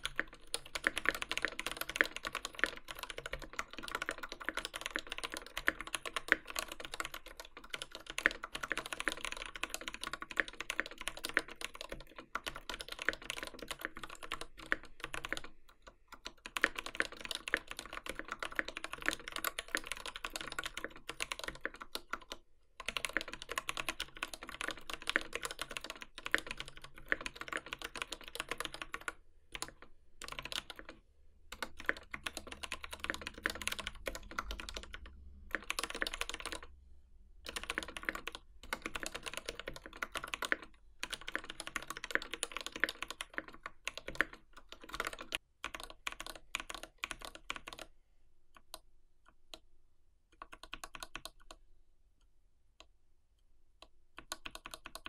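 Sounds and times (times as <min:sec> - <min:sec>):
mechanical keyboard typing: 0:00.0 - 0:36.7, 0:37.4 - 0:47.9, 0:50.4 - 0:51.6, 0:54.2 - 0:55.0.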